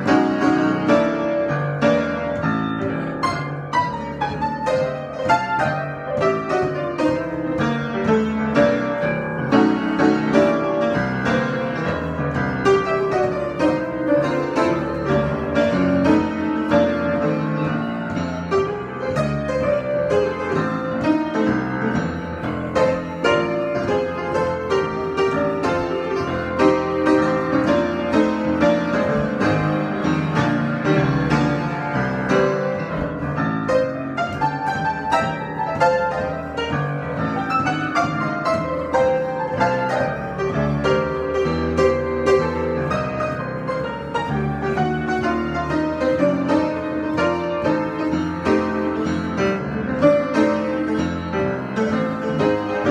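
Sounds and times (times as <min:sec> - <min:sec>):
solo piano improvisation: 0:00.0 - 0:52.9.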